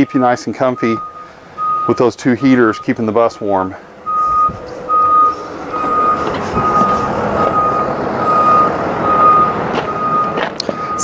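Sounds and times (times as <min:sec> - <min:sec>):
reversing alarm beeping: 0:00.0 - 0:11.0
vehicle noise: 0:00.0 - 0:11.0.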